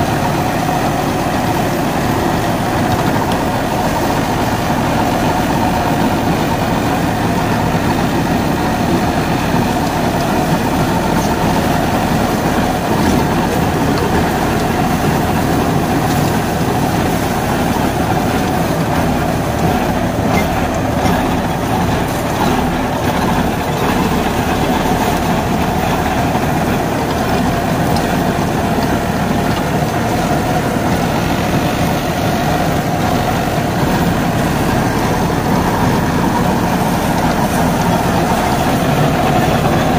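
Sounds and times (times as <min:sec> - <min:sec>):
rotavator churning soil: 0:00.0 - 0:39.9
tractor diesel engine running: 0:00.0 - 0:39.9.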